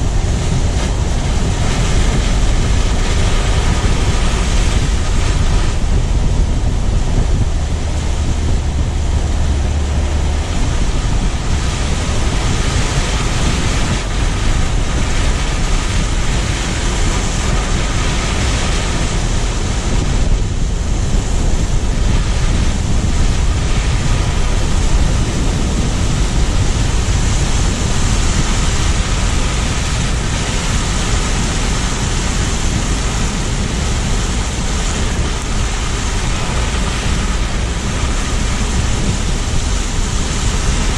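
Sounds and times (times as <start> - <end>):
tyre and road noise: 0.0 - 40.9
wind buffeting microphone: 0.0 - 40.9.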